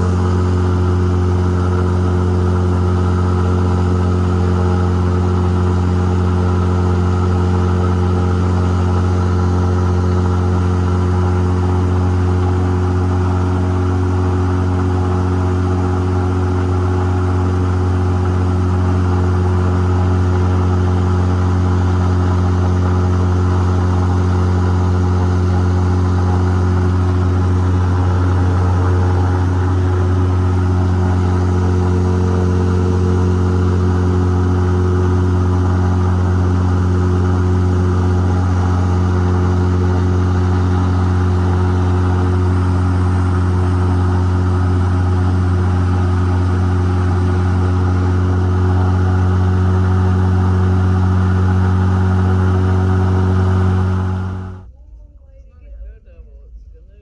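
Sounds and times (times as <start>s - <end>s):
airboat engine and propeller: 0.0s - 54.7s.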